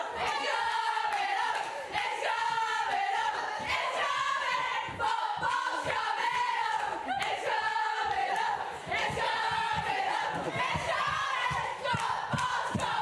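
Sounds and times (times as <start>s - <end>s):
women singing and chanting: 0.0s - 13.0s.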